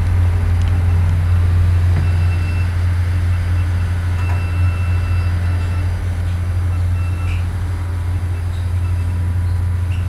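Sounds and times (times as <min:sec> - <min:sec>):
ship engine machinery drone: 0:00.0 - 0:10.0.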